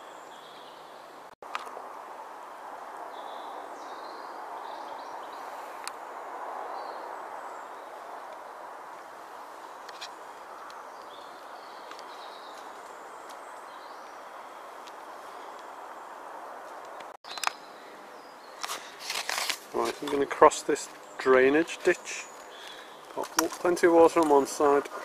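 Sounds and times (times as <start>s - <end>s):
small birds chirping: 3.0s - 19.1s, 19.7s - 25.0s.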